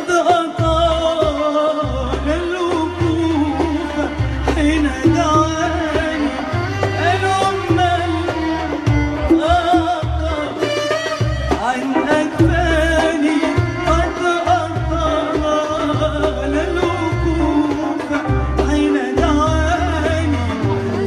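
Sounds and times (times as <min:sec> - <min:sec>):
band playing: 0:00.0 - 0:21.0
hand drum beat: 0:00.0 - 0:21.0.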